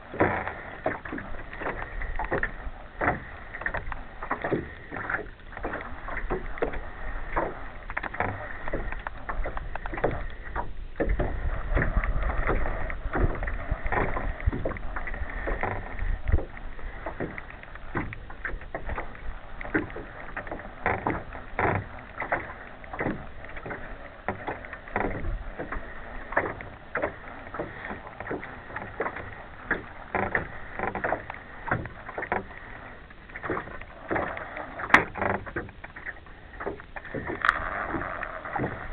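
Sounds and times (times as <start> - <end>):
water slapping against boat hull: 0.0 - 38.9.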